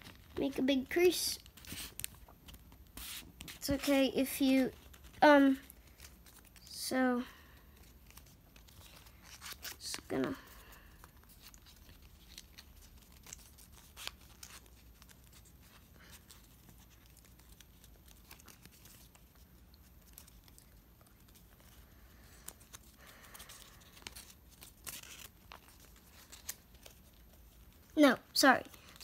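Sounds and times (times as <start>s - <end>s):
paper being folded and creased: 0.0s - 29.0s.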